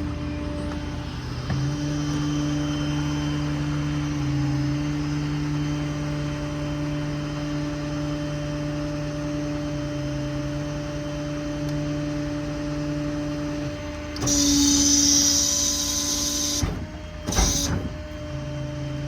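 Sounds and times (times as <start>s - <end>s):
machine hum with whine: 0.0s - 19.0s.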